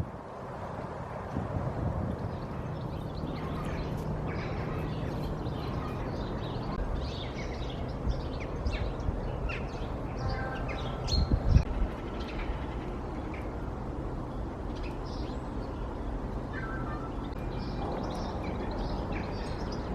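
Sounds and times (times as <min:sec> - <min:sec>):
low outdoor rumble: 0:00.0 - 0:19.9
small birds chirping: 0:02.2 - 0:19.9.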